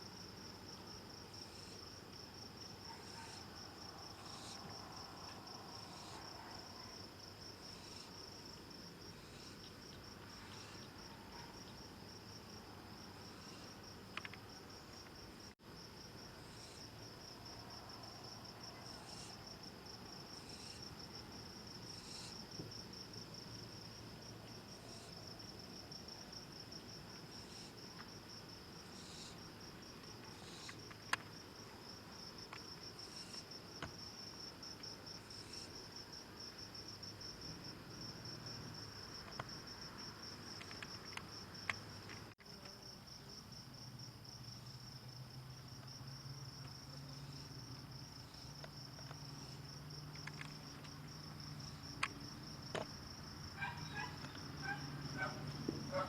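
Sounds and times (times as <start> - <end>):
crickets trilling: 0.1 - 56.0.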